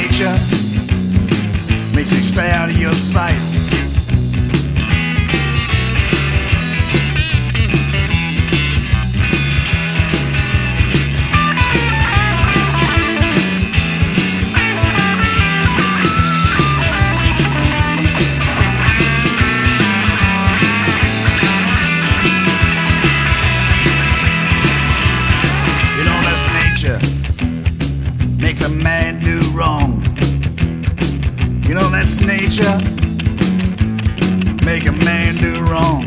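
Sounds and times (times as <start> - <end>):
bass guitar: 0.0 - 36.0
drum beat: 0.0 - 36.0
lead guitar: 0.0 - 36.0.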